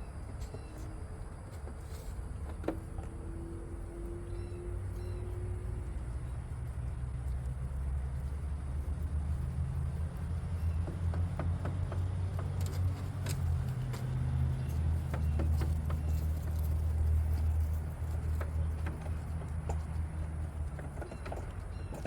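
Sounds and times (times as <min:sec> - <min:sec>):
goats chewing feed: 0:00.0 - 0:22.0
steady low rumble: 0:00.0 - 0:22.0.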